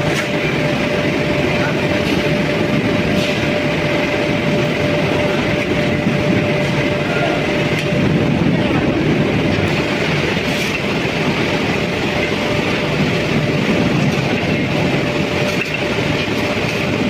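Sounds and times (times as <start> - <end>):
constant hum: 0.0 - 17.0
loud machinery rumble: 0.0 - 17.0.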